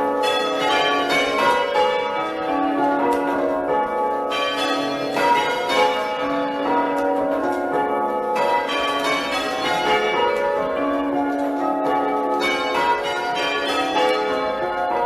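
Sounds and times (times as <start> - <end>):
church bells change ringing: 0.0 - 15.0.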